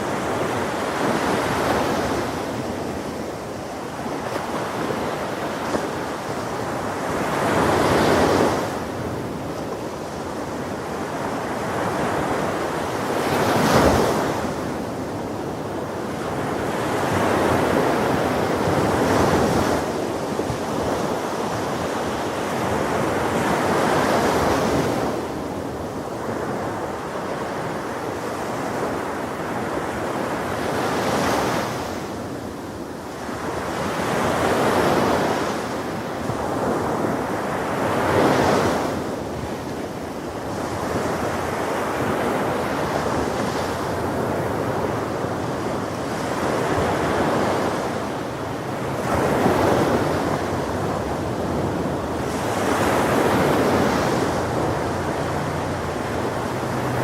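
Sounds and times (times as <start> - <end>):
ocean waves breaking on shore: 0.0 - 57.0
wind rumbling on microphone: 0.0 - 57.0.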